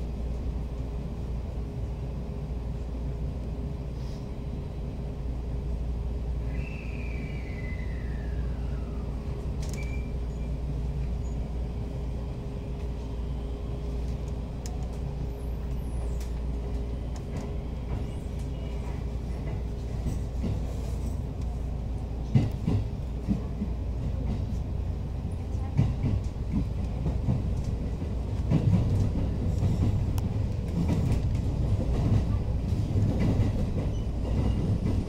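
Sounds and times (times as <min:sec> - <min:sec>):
train low rumble and hum: 0:00.0 - 0:35.0.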